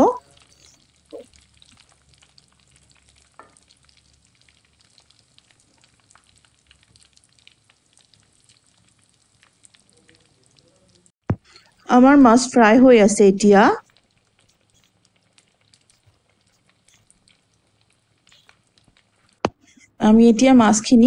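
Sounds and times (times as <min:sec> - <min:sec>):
fish frying in hot oil: 0:00.1 - 0:19.5.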